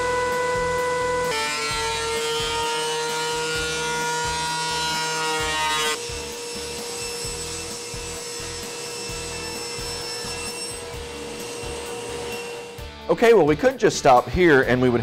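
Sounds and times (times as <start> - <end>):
table saw cutting wood: 0.0 - 12.9
thickness planer whining: 0.0 - 12.9.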